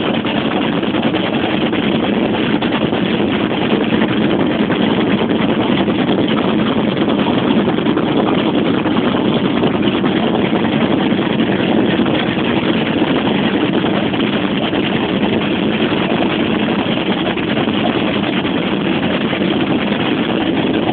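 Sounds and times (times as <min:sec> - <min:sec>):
small boat motor running: 0:00.0 - 0:20.9.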